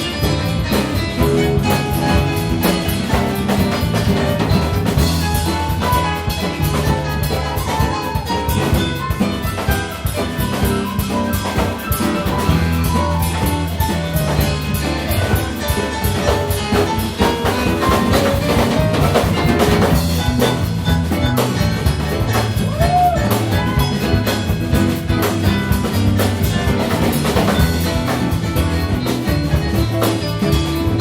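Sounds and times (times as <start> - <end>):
drum kit beat: 0.0 - 31.0
upbeat instrumental ensemble: 0.0 - 31.0.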